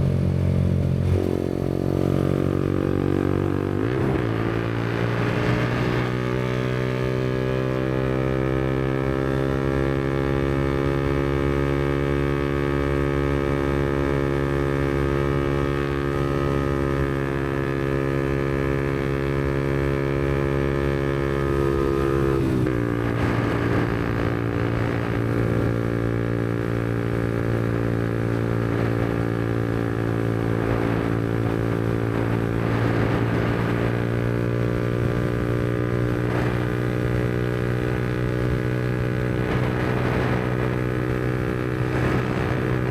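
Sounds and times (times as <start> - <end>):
motorcycle engine riding: 0.0 - 42.9.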